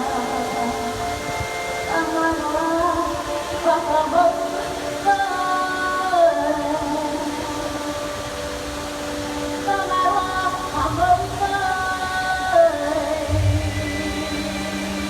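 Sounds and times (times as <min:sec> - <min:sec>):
woman singing with music: 0:00.0 - 0:15.0.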